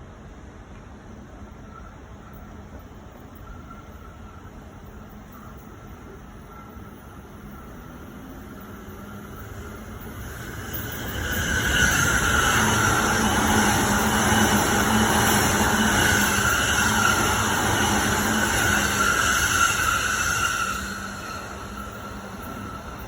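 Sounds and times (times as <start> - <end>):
electric train running on rails: 0.0 - 23.0.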